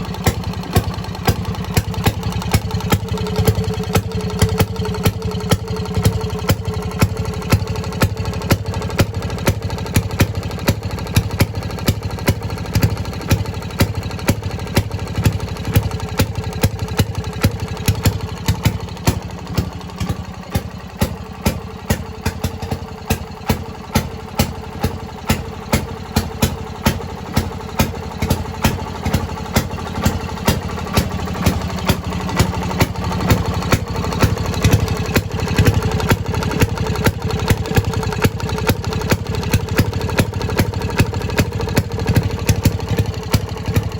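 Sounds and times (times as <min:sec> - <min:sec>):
two-stroke engine firing pops: 0:00.0 - 0:43.9.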